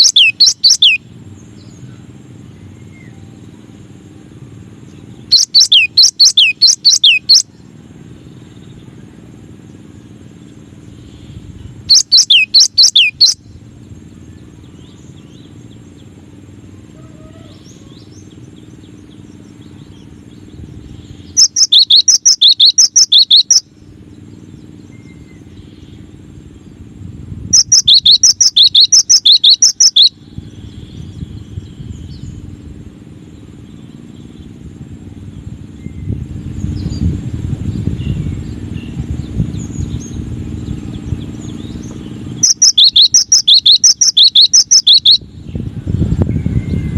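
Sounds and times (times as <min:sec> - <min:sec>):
bird rapid high chirps: 0:00.0 - 0:04.0, 0:04.8 - 0:16.7, 0:17.3 - 0:32.6, 0:33.2 - 0:46.0
steady low rumble: 0:00.0 - 0:46.9.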